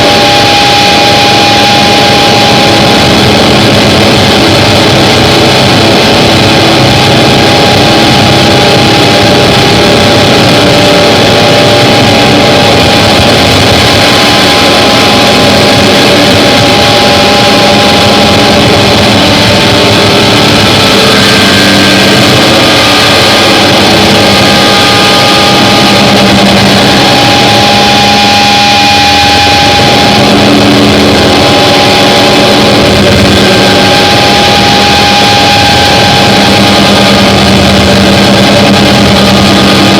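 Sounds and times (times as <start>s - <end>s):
distorted noise wall: 0.0s - 39.9s
held drone tones: 0.0s - 39.9s.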